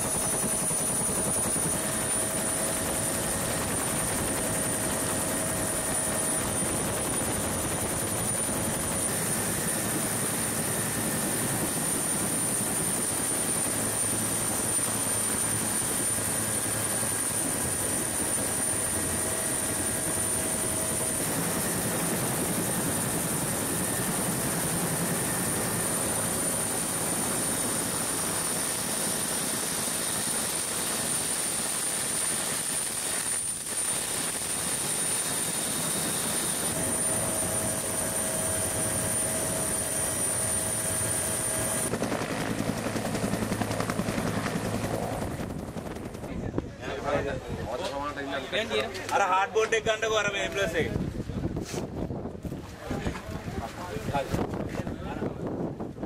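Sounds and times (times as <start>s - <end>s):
constant high whine: 0.0s - 56.0s
helicopter rotor and engine: 0.0s - 56.0s.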